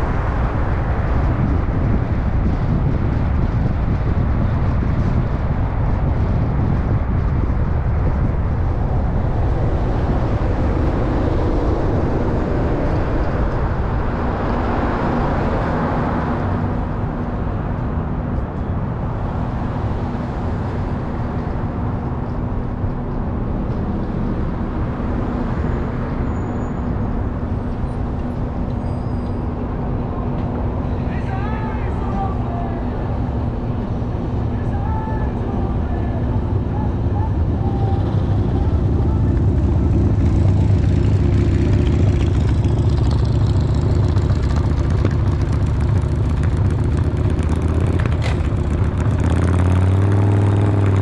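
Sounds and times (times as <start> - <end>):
car engine and tyre noise: 0.0 - 51.0.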